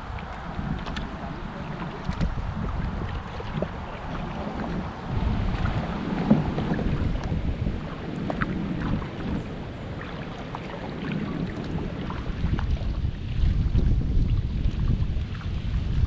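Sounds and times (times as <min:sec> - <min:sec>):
water splashing and dripping: 0:00.0 - 0:16.0
wind rumbling on microphone: 0:00.0 - 0:16.0.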